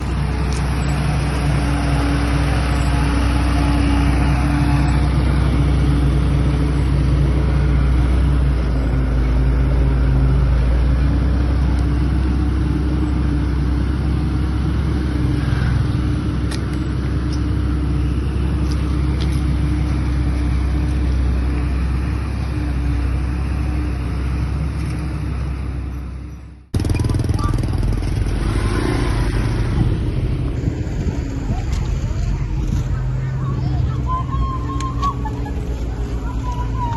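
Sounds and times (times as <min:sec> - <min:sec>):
different engine: 0:00.0 - 0:36.9
heavy machine engine running: 0:00.0 - 0:36.9.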